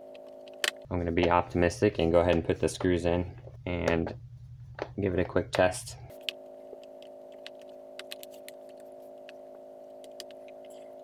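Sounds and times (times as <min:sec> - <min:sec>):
low hum of held tones: 0:00.0 - 0:11.0.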